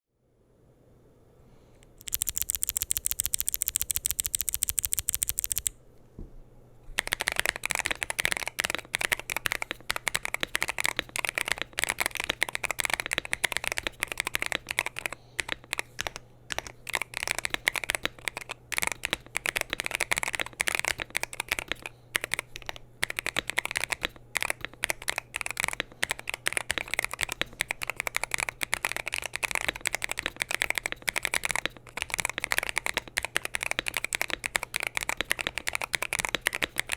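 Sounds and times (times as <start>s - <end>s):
mechanical keyboard typing: 1.8s - 5.8s, 7.0s - 36.9s.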